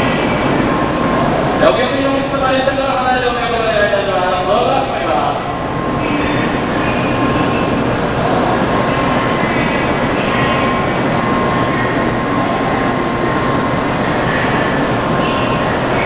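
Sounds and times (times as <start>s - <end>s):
train departing: 0.0s - 16.0s.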